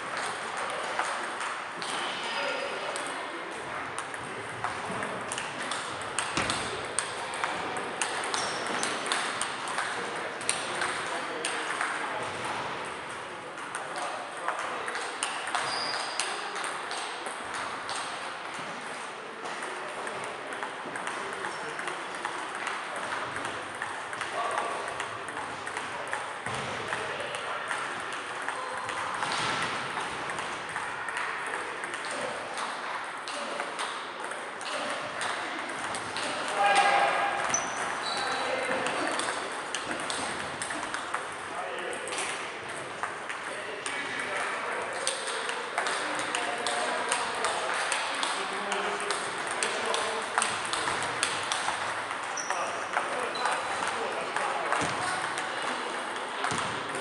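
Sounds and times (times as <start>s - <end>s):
table tennis balls clicking: 3.0s - 12.6s, 13.5s - 18.2s, 19.5s - 44.2s, 44.8s - 57.0s.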